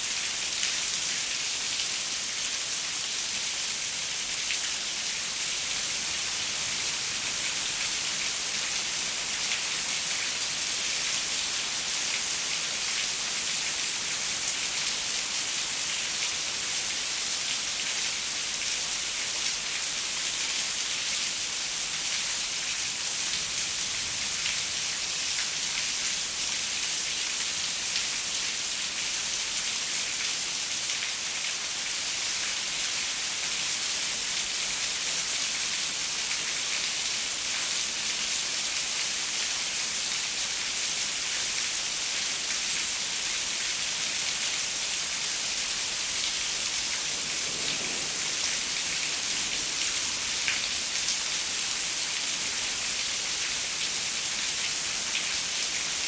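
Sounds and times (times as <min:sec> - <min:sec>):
rain falling on a window: 0:00.2 - 0:56.0.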